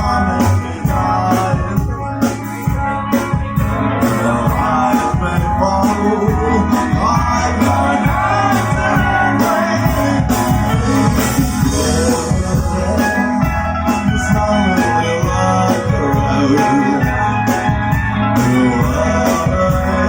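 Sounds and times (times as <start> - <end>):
person singing: 0.0 - 2.9, 3.6 - 20.0
bass guitar: 0.0 - 20.0
drums: 0.0 - 20.0
electric guitar: 0.0 - 20.0.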